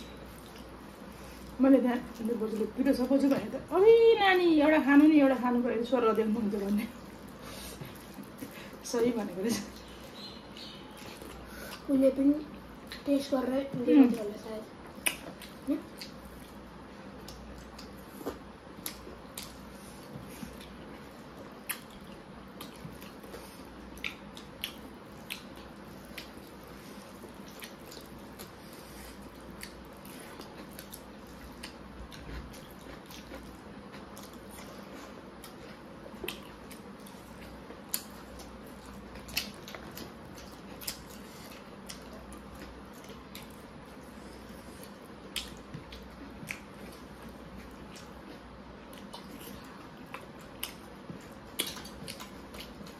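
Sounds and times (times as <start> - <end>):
low background noise: 0.0 - 52.9
wet chewing: 6.1 - 11.9, 14.0 - 52.9.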